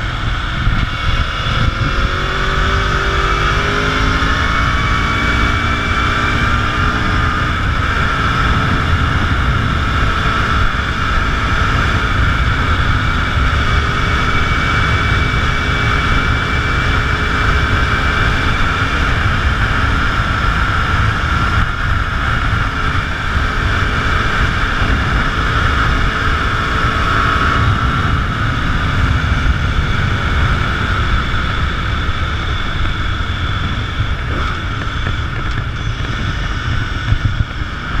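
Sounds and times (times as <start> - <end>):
motorcycle engine droning: 0.0 - 38.0
wind rushing on microphone: 0.0 - 38.0.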